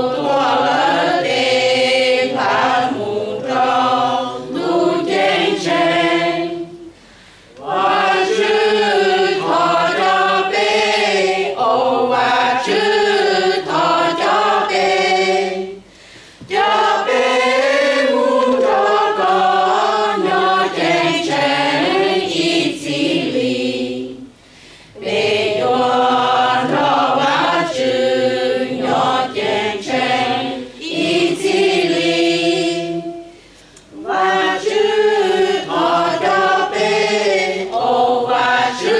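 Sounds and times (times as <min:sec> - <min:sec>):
mixed choir singing a hymn: 0:00.0 - 0:38.9.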